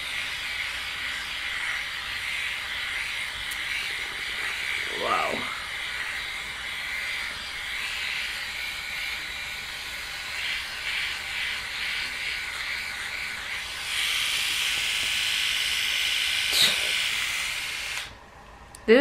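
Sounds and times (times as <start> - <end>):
electric shaver whirring: 0.0 - 18.2.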